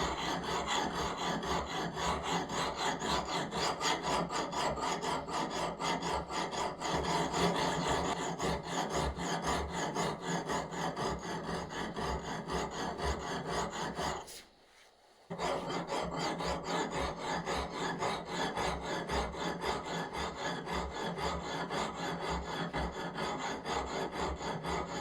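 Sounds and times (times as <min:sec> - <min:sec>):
file rasping back and forth: 0:00.0 - 0:14.6, 0:15.3 - 0:25.0.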